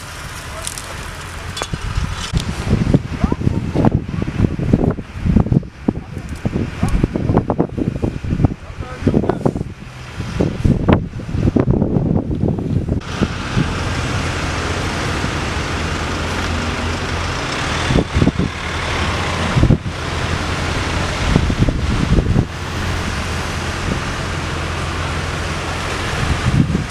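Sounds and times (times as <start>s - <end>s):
fire engine pump droning: 0.0s - 5.4s, 6.6s - 26.9s
road traffic passing: 0.0s - 26.9s
wind buffeting microphone: 0.0s - 26.9s.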